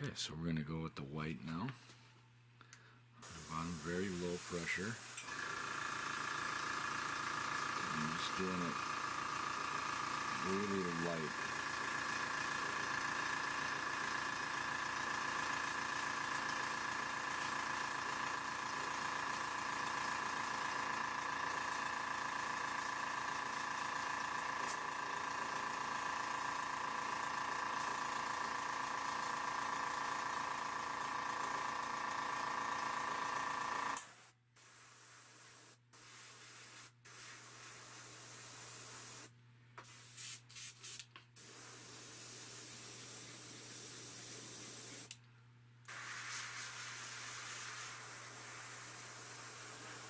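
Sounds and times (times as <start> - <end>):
compressor hum: 0.0 - 40.1
airbrush hissing: 3.2 - 45.2, 45.9 - 50.0.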